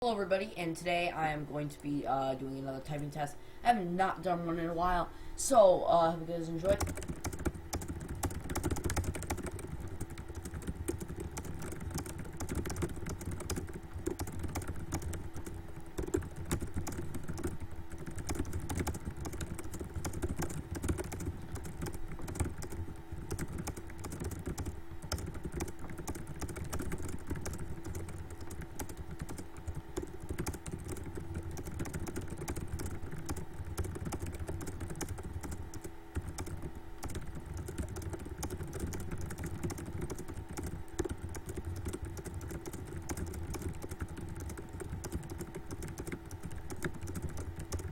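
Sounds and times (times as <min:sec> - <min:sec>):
low steady hum: 0:00.0 - 0:47.9
fast typing on keyboard: 0:06.6 - 0:47.9.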